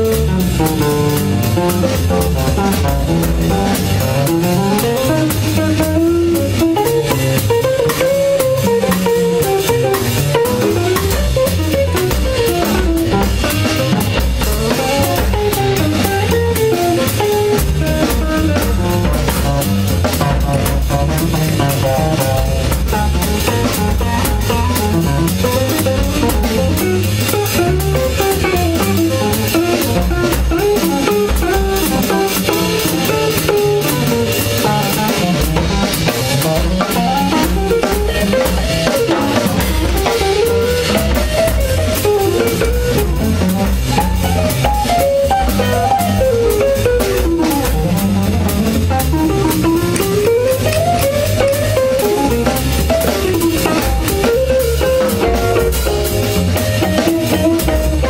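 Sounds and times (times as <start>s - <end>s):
drum kit cymbals: 0.0s - 58.0s
electric guitar jazz solo: 0.0s - 58.0s
upright double bass: 0.0s - 58.0s.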